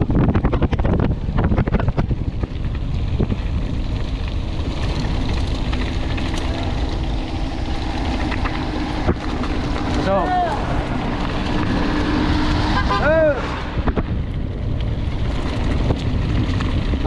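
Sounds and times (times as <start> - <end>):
bike frame and chain rattling: 0.0 - 12.6, 14.0 - 17.0
tyres and wind rushing: 0.0 - 17.0.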